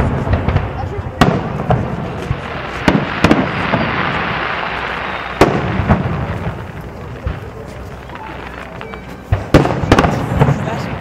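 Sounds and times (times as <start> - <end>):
firework shells bursting: 0.0 - 10.9
continuous hiss: 0.0 - 11.0.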